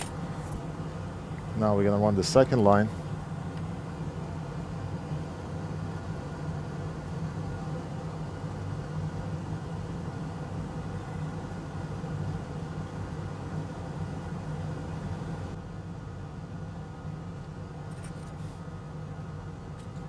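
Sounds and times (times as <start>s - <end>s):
fan humming with hiss: 0.0s - 20.0s.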